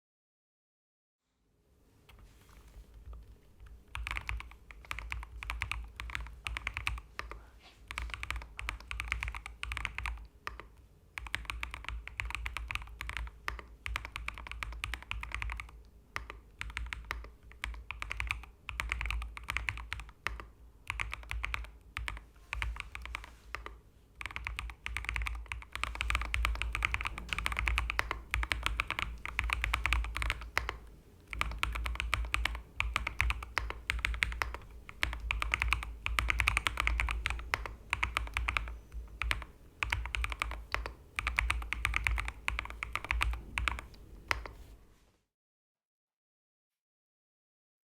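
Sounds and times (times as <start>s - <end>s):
fast typing on mechanical keyboard: 3.6s - 44.6s.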